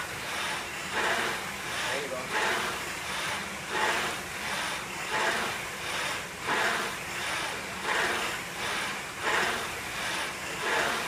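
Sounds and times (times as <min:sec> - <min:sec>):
rowing machine flywheel whooshing: 0:00.0 - 0:11.0.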